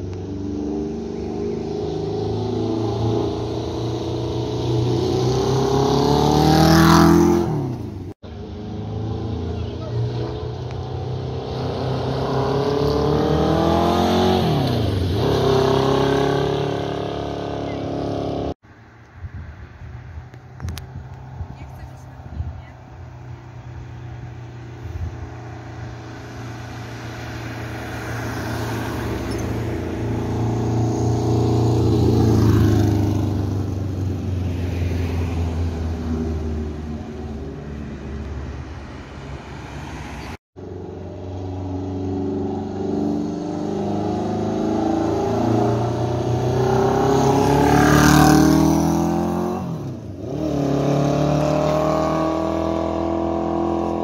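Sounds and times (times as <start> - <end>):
motorcycle engine passing: 0.0 - 18.6, 21.2 - 54.0.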